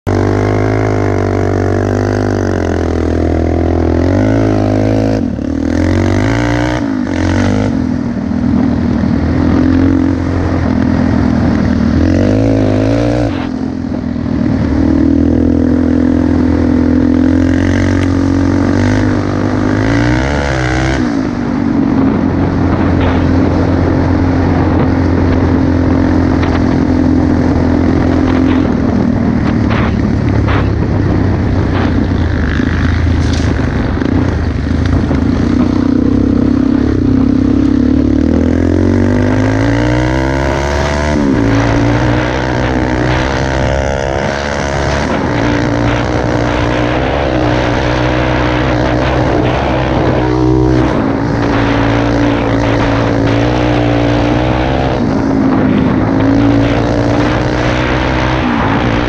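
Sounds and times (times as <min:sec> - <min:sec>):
quad bike engine revving: 0:00.0 - 0:59.0.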